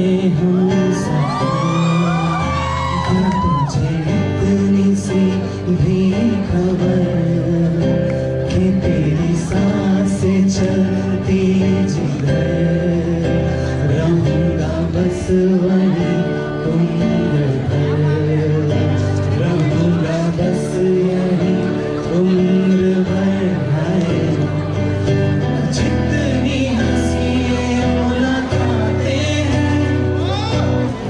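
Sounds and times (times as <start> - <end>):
acoustic guitar strumming: 0.0 - 31.0
man singing: 0.0 - 31.0.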